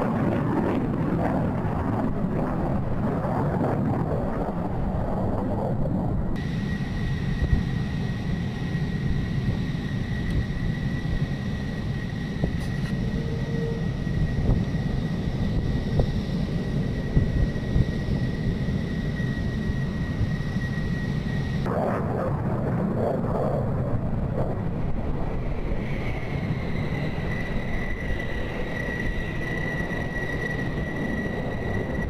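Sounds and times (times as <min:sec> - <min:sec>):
jet engine rumble and whine: 0:00.0 - 0:32.0.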